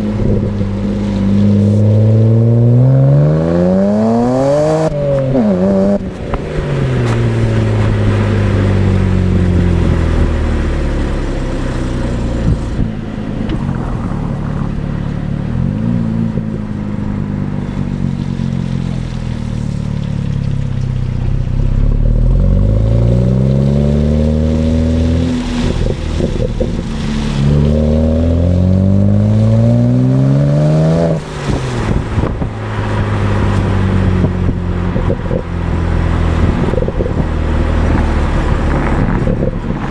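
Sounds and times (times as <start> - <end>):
car exhaust revving through gears: 0.0 - 19.2, 20.0 - 39.9.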